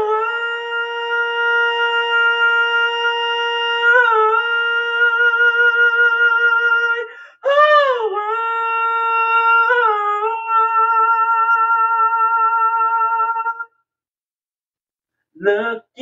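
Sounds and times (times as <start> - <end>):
man humming a melody: 0.0 - 13.7.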